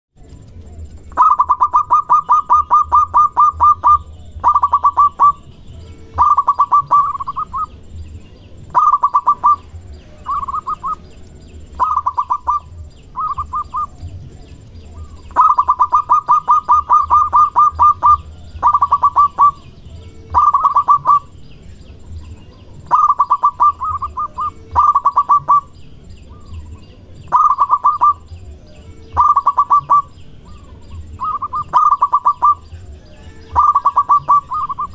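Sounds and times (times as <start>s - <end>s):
dove singing staccato notes: 0.2s - 34.9s
faint low hum: 0.2s - 34.9s.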